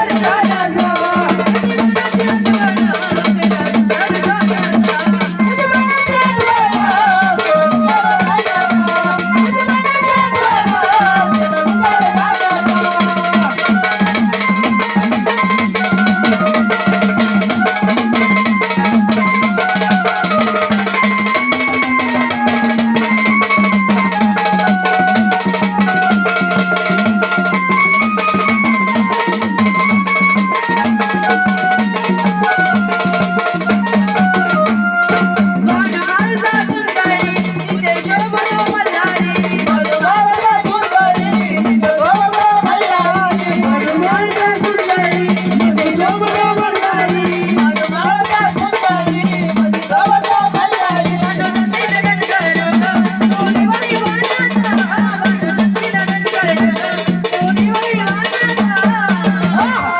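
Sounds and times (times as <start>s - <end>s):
drums: 0.0s - 59.9s
person singing: 0.0s - 59.9s.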